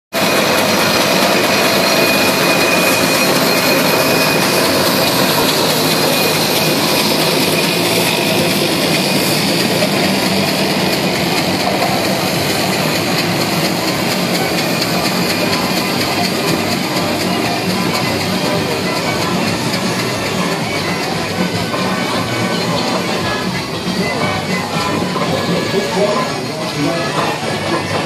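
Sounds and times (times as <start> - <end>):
steam traction engines running: 0.1 - 28.0.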